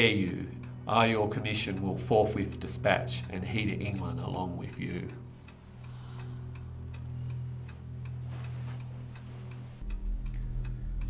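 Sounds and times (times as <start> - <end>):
low steady hum: 0.0 - 11.0
steady ticking: 0.0 - 11.0.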